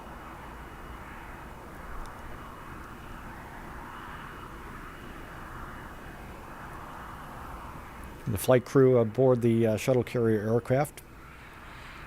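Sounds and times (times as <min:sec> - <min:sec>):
jet aircraft rushing with whine: 0:00.0 - 0:12.0.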